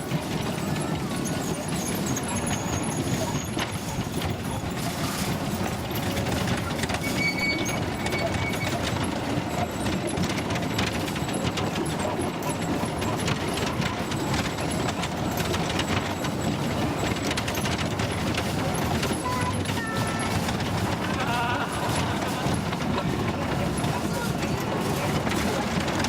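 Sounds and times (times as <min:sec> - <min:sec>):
train wheels rattling on track: 0:00.0 - 0:26.0.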